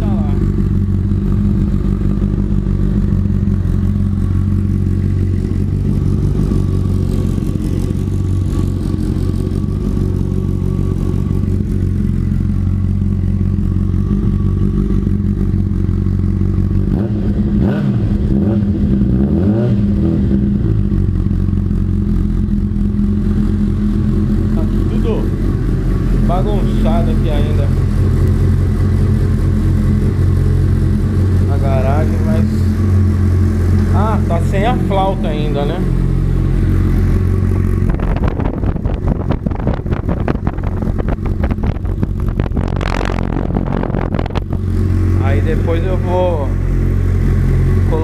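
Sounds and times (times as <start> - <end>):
motorcycle engine idling: 0.0 - 19.2, 20.0 - 48.0
engine revving: 0.0 - 48.0.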